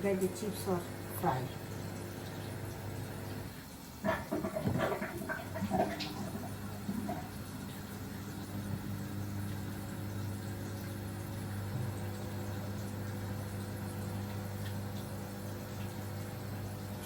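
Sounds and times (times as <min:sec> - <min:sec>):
electrical motor hum: 0:00.0 - 0:17.0.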